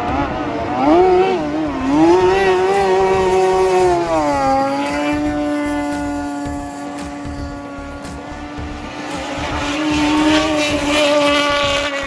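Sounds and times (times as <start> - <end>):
outboard motor at high revs: 0.0 - 12.0.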